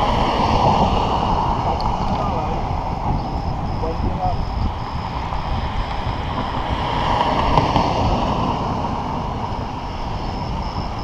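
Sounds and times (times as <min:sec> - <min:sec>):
bicycle tyres rolling on asphalt: 0:00.0 - 0:11.0
rushing wind: 0:00.0 - 0:11.0.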